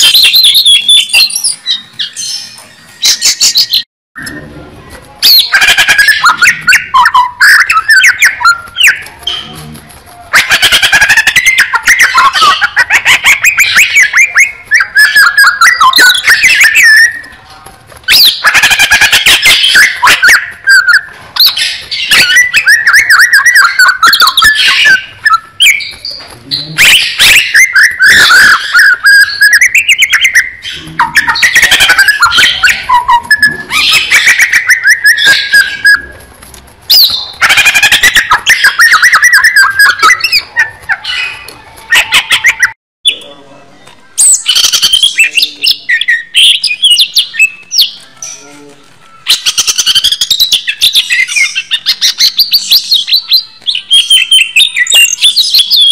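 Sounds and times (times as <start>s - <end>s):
bird warbling and chirping: 0.0s - 55.9s.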